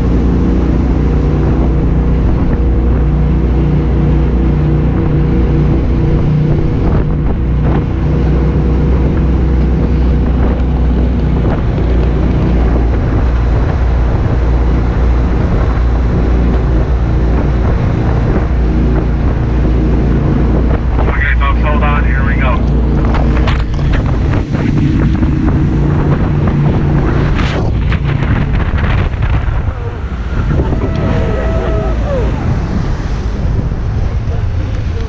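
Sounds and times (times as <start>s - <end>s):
jet boat engine drone: 0.0s - 35.0s
water rushing: 0.0s - 35.0s
wind buffeting microphone: 0.0s - 35.0s.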